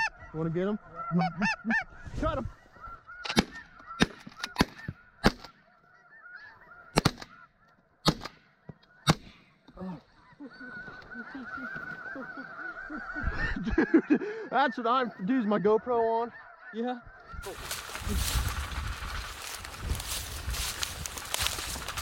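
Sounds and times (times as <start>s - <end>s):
geese yelping chorus: 0.0s - 22.0s.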